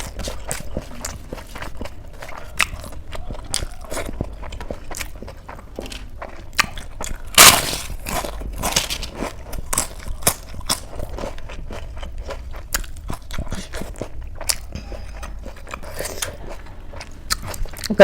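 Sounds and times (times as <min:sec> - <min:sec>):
person chewing and crunching food: 0:00.0 - 0:18.0.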